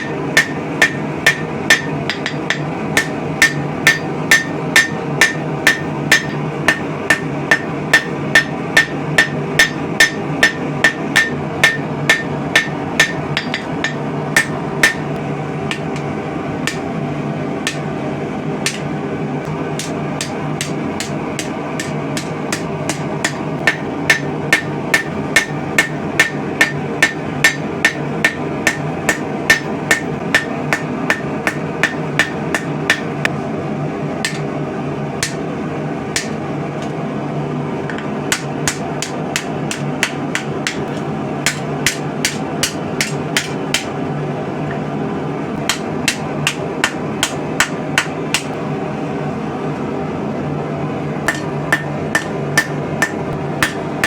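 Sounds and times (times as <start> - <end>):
hammer striking steel on anvil: 0.0 - 17.0, 17.6 - 17.9, 18.6 - 33.3, 34.2 - 34.6, 35.2 - 35.4, 36.1 - 36.9, 37.9 - 44.0, 45.6 - 48.6, 51.3 - 54.0
steady low hum: 0.0 - 54.0.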